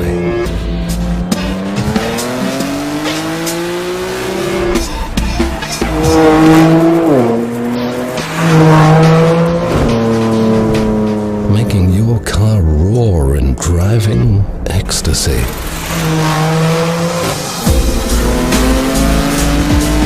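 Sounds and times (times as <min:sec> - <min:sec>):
car engine accelerating hard: 0:00.0 - 0:12.5, 0:14.6 - 0:20.0.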